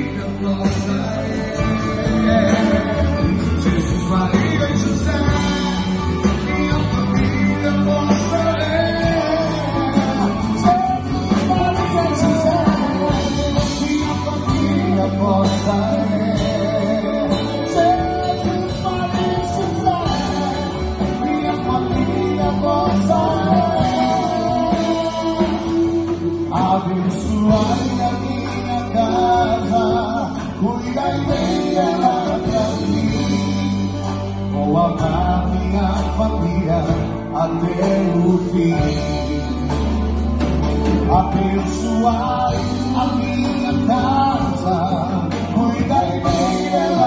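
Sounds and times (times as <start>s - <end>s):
live band playing: 0.0s - 47.0s
person singing: 0.0s - 47.0s.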